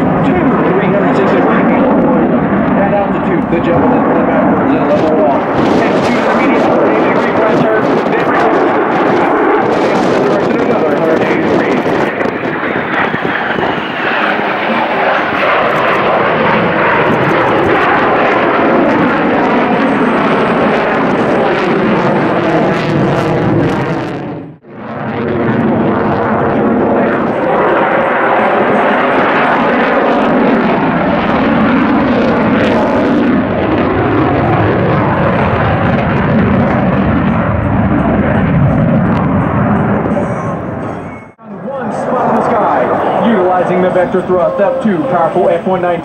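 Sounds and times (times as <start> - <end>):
jet engine roar: 0.0 - 46.0.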